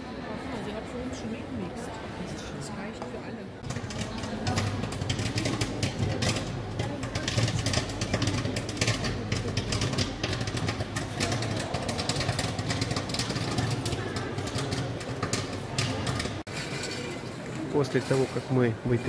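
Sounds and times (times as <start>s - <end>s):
popcorn popping: 3.6s - 19.0s.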